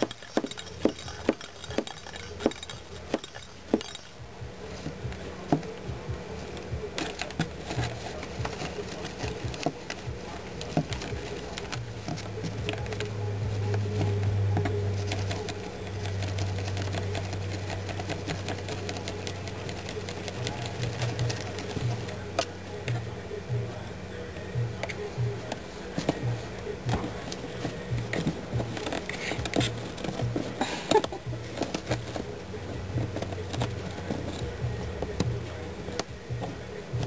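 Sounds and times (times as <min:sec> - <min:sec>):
kitten batting cardboard tubes: 0:00.0 - 0:04.0, 0:06.6 - 0:23.1, 0:25.4 - 0:37.0
low steady hum: 0:00.0 - 0:37.0.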